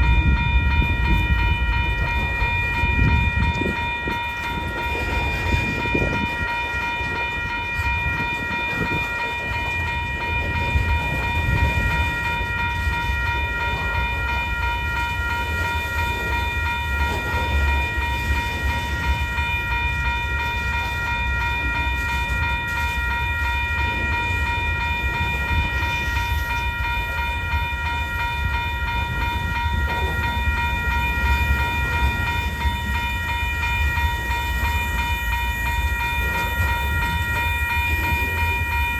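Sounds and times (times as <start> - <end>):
ringing multi-pitch tone: 0.0 - 38.9
train wheels rumbling on rail: 0.0 - 38.9.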